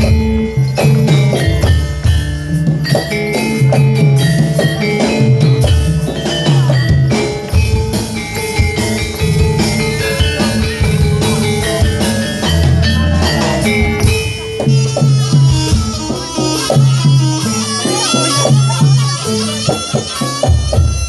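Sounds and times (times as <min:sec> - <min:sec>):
hand drums: 0:00.0 - 0:21.0
struck metal percussion: 0:00.0 - 0:21.0.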